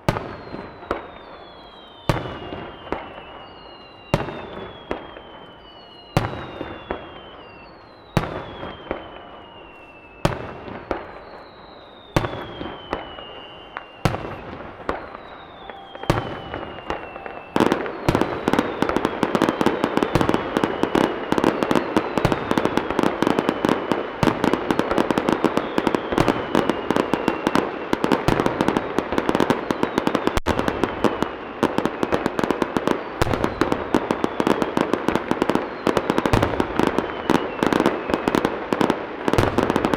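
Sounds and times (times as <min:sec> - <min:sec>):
falling firework whistle: 0:00.0 - 0:39.9
firework crackle: 0:00.0 - 0:39.9.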